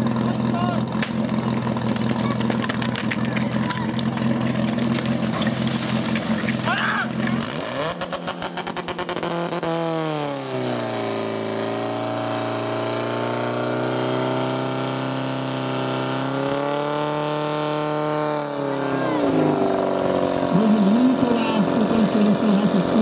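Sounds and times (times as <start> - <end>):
pump engine running: 0.0 - 23.0.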